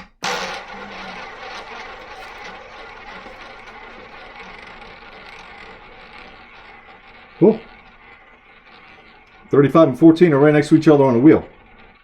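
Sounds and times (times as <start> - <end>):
roulette ball whirring in wheel: 0.0 - 12.0.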